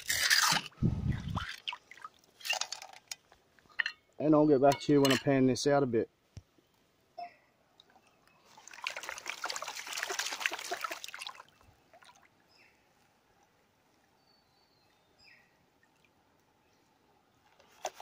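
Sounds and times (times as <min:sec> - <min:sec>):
faint water sounds: 0:00.2 - 0:06.1, 0:06.8 - 0:18.0.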